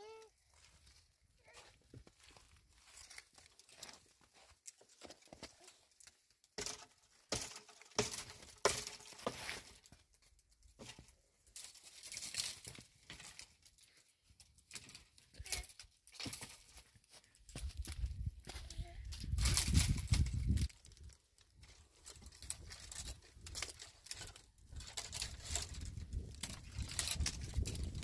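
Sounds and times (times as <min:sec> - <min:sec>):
rustling and crinkling: 0:00.0 - 0:28.0.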